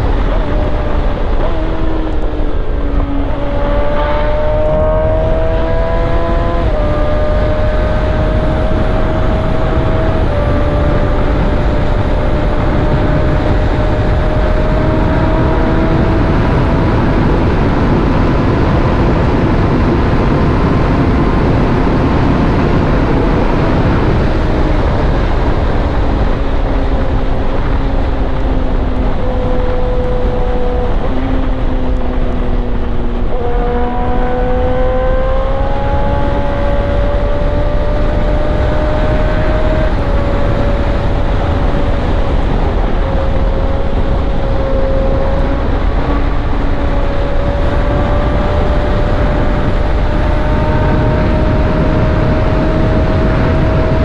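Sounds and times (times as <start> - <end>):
heavy wind noise: 0.0 - 54.0
motorcycle engine running: 0.0 - 54.0.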